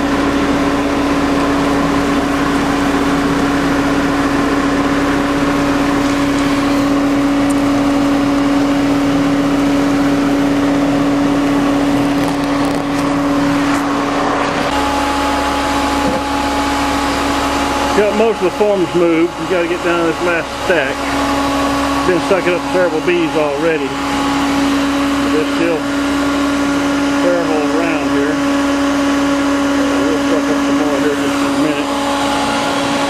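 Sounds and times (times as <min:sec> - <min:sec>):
vacuum humming: 0:00.0 - 0:33.0
higher steady tone: 0:03.0 - 0:12.1, 0:13.1 - 0:33.0.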